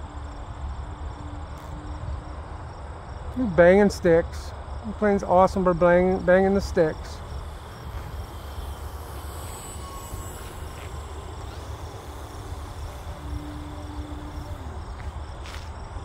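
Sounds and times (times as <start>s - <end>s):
model plane motor buzzing: 0.0s - 16.0s
steady low rumble: 0.0s - 16.0s.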